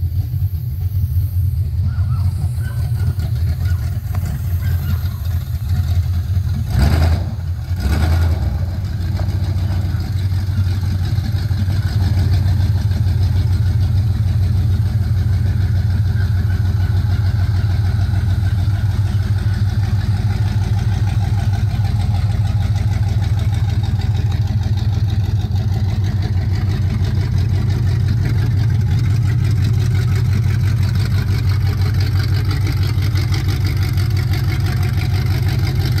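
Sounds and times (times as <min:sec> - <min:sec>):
vee eight engine idling: 0:00.0 - 0:36.0.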